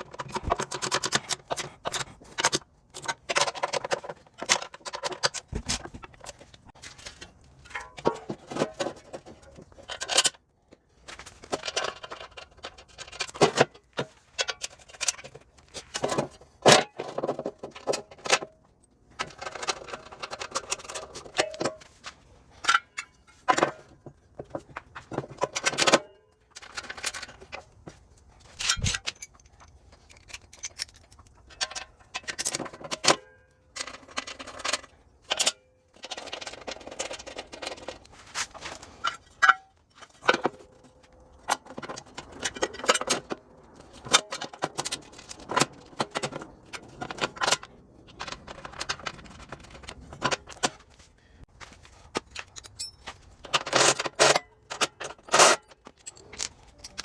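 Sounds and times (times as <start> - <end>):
hand tools clinking and rattling: 0.0 - 57.0.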